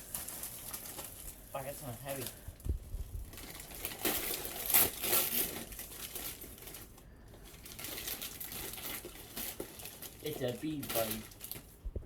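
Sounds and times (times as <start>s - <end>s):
wrapping paper crinkling: 0.0s - 11.8s.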